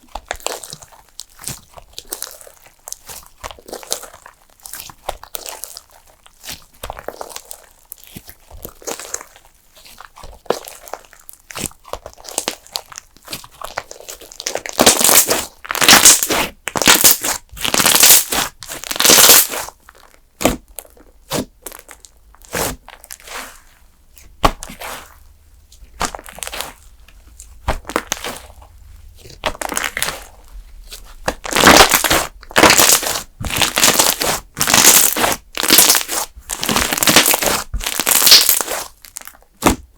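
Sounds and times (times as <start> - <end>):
slime popping and crinkling: 0.0 - 39.9.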